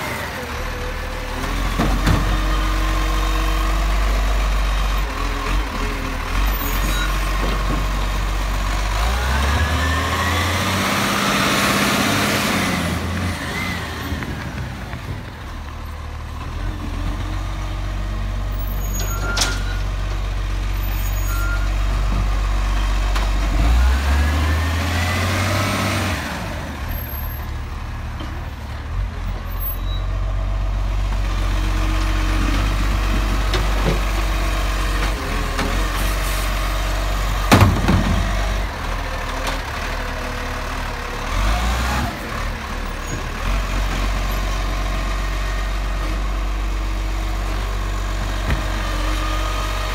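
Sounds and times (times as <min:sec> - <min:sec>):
garbage truck diesel engine: 0:00.0 - 0:49.9.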